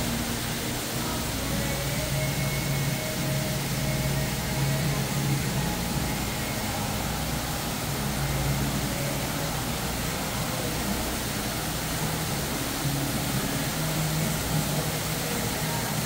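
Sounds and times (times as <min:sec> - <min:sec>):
rushing waterfall: 0:00.0 - 0:16.0.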